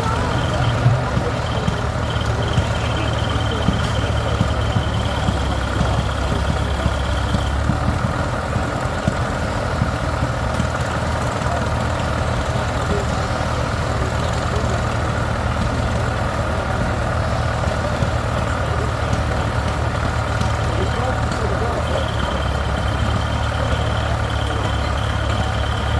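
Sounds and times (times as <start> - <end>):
heavy engine idling: 0.0 - 25.9.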